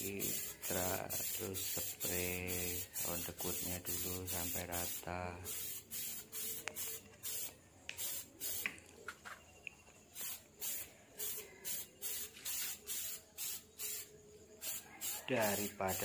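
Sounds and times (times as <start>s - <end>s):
aerosol spray can hissing bursts: 0.0s - 8.8s, 10.2s - 16.0s.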